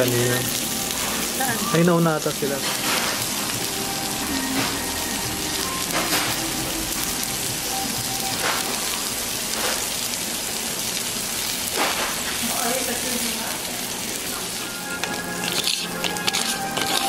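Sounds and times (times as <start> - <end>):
food sizzling on grill plate: 0.0 - 17.0.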